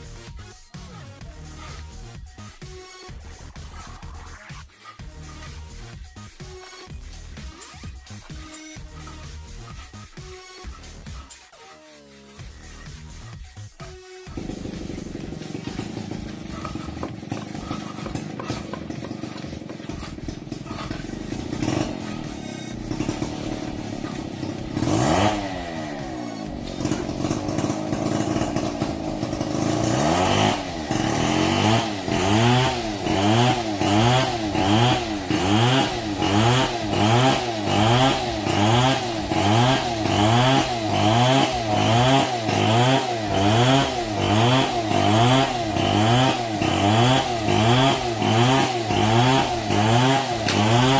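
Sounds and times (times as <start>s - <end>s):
small engine revving: 0.0s - 50.9s.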